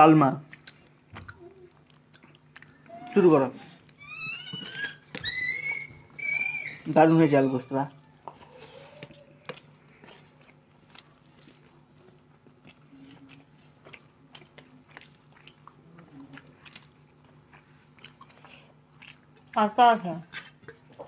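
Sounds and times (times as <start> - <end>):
people chewing: 0.0 - 7.1, 7.9 - 21.0
low steady hum: 0.0 - 21.0.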